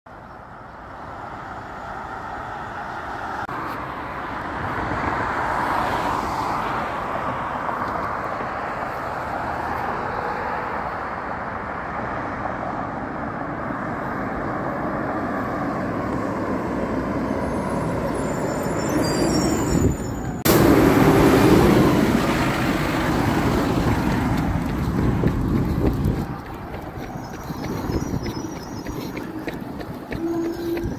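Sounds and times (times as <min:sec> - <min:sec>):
road traffic passing: 0:00.1 - 0:30.9.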